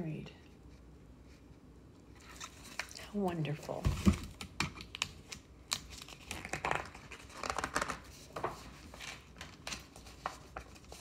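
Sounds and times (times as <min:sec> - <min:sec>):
book pages turning: 0:00.7 - 0:11.0.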